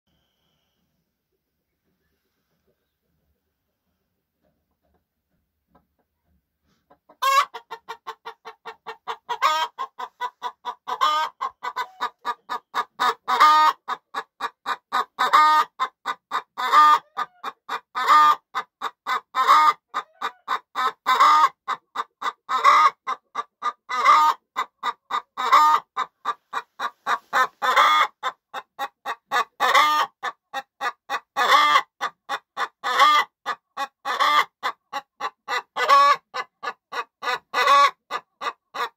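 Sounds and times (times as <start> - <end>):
hen cackling: 7.1 - 38.9.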